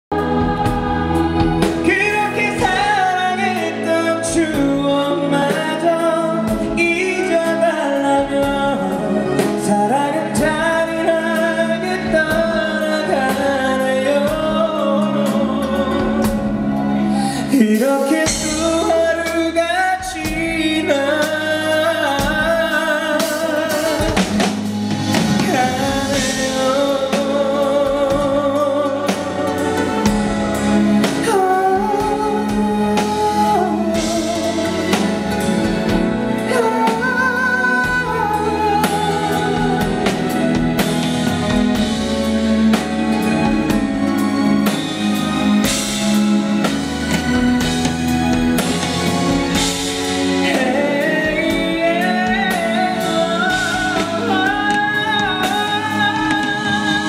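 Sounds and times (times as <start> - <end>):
backing band with drums: 0.1 - 57.0
man singing with vibrato: 0.1 - 57.0.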